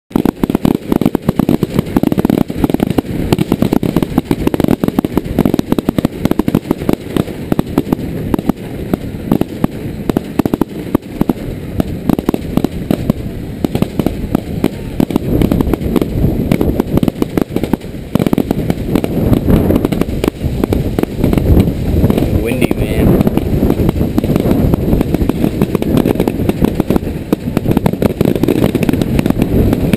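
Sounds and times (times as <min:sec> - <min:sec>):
fireworks bangs: 0:00.1 - 0:29.9.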